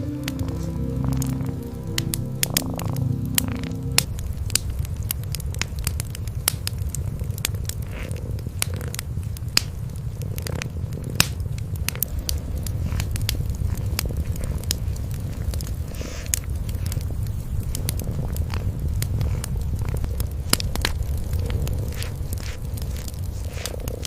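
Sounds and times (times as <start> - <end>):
cats purring: 0.0 - 24.0
wood fire crackling and popping: 0.0 - 24.0.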